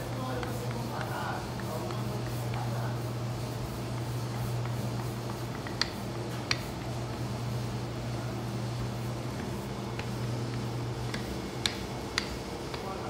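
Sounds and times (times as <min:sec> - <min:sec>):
low machine hum: 0:00.0 - 0:13.0
rolling pin on dough: 0:00.0 - 0:13.0.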